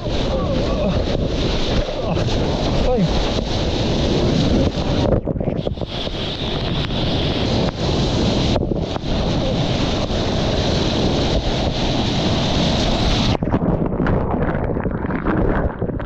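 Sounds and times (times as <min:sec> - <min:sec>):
waves churning and splashing: 0:00.0 - 0:16.0
wind buffeting microphone: 0:00.0 - 0:16.0.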